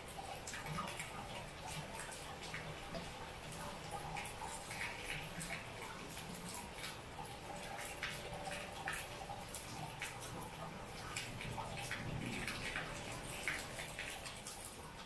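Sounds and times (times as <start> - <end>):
close drips and splashes: 0.0 - 15.0
rain falling steadily: 0.0 - 15.0.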